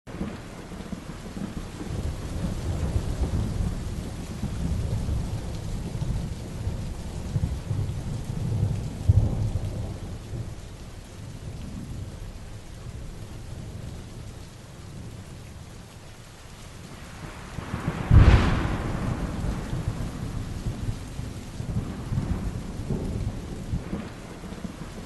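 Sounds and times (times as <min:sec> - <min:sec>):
thunder rumbling: 0:00.1 - 0:14.0, 0:16.8 - 0:25.0
heavy rain: 0:00.1 - 0:25.0.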